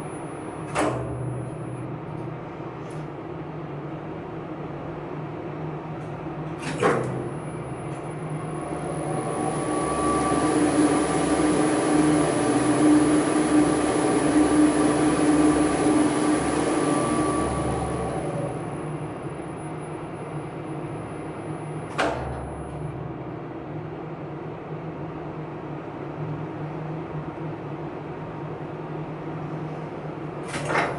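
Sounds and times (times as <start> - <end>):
elevator machinery humming: 0.0 - 25.0.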